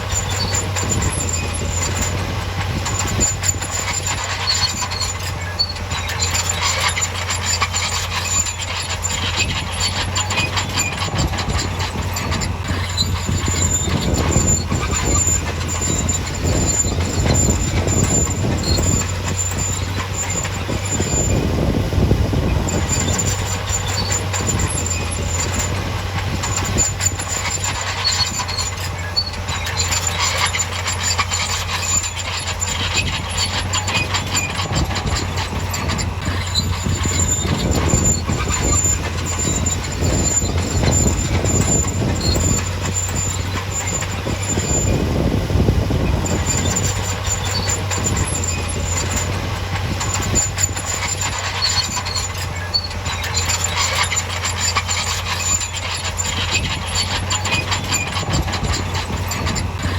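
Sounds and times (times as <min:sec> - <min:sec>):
diesel engine running: 0:00.0 - 0:59.9
steel tracks clanking and squealing: 0:00.0 - 0:59.9.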